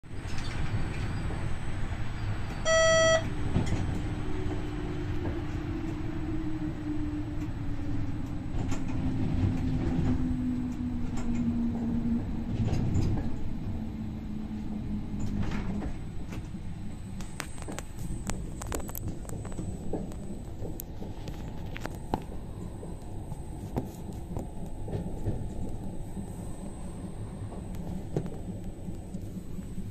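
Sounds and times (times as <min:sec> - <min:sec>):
wheel and rail rumble: 0:00.0 - 0:29.9.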